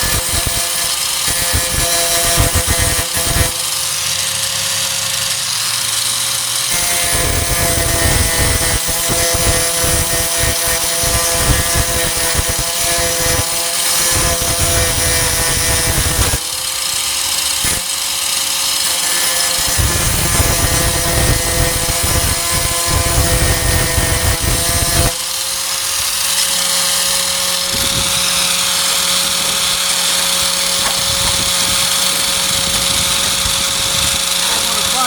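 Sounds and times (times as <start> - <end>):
angle grinder grinding sheet steel: 0.0 - 35.0.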